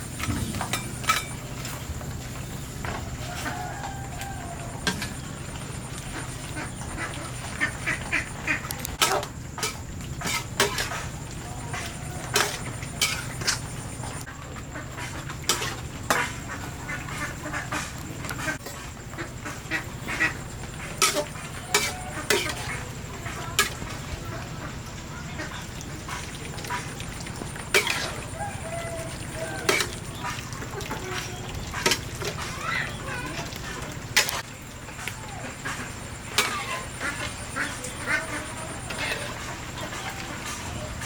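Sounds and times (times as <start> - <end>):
ducks quacking: 0.0 - 41.0.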